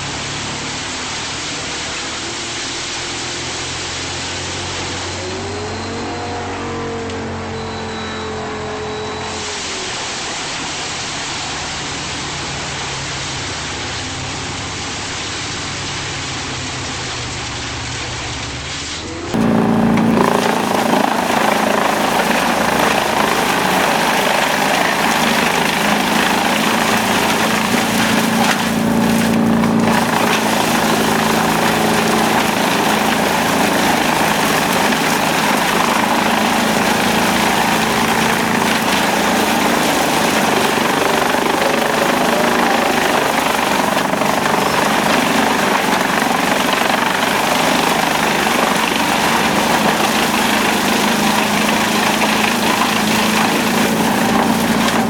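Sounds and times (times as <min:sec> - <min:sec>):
wood chipper engine drone: 0:00.0 - 0:55.0
wood chipper working: 0:00.0 - 0:55.0.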